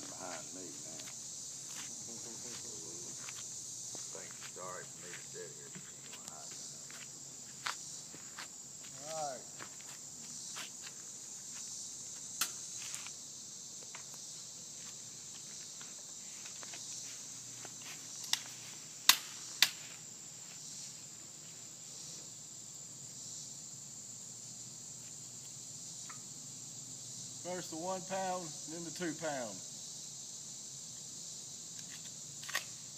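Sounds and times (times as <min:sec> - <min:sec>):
insects chirring: 0:00.0 - 0:32.9.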